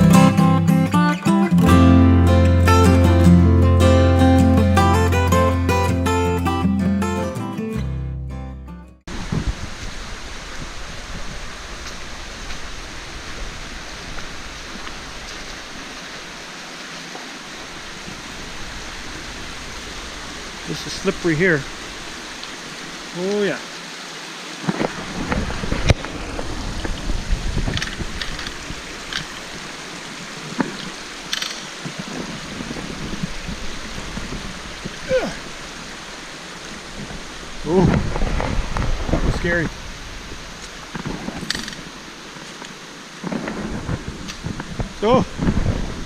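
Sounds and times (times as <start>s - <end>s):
creek water rushing over rock: 9.1s - 46.0s.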